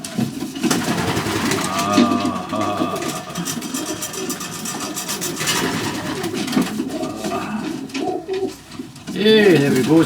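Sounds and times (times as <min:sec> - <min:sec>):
pigeons cooing: 0:00.7 - 0:08.8.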